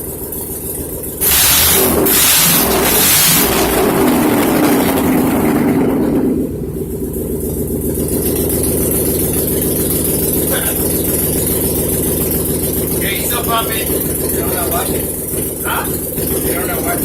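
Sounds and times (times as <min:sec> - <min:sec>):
loud open exhaust car engine: 0:00.0 - 0:17.0.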